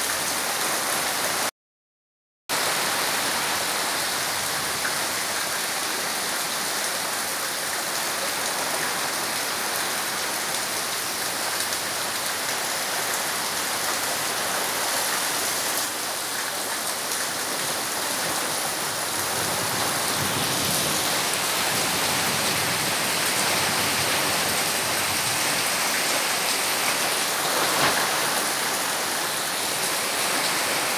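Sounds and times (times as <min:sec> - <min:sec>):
heavy rain on puddles and trees: 0:00.0 - 0:01.5, 0:02.5 - 0:30.9.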